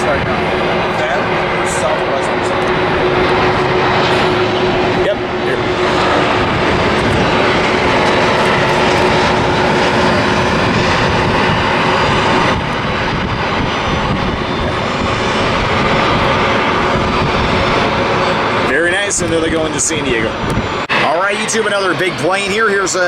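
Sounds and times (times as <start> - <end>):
jet airliner passing close: 0.0 - 23.0.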